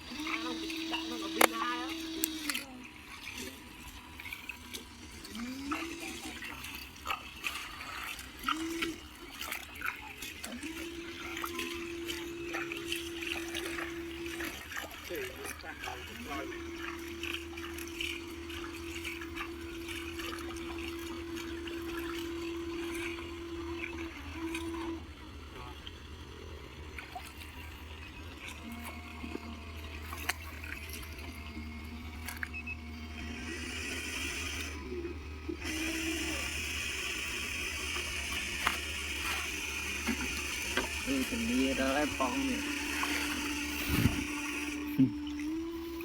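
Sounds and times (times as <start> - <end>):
small electric motor humming: 0.0 - 46.0
water trickling and splashing: 0.0 - 46.0.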